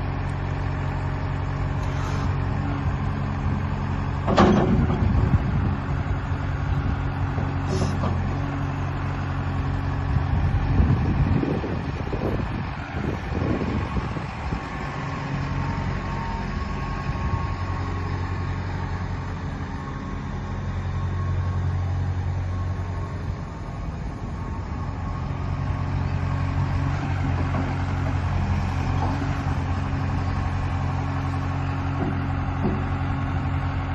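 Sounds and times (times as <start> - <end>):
excavator diesel engine running: 0.0 - 33.9
uneven low rumbles: 0.0 - 33.9.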